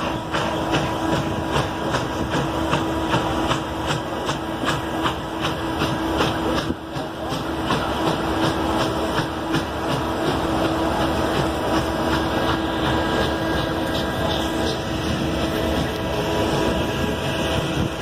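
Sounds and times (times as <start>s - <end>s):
rumble of moving train: 0.0s - 18.0s
steam locomotive exhaust beating: 0.0s - 18.0s.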